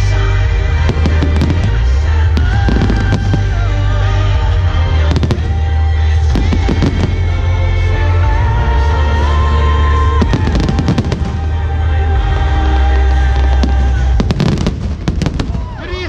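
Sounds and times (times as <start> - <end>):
music with long held notes: 0.0 - 16.0.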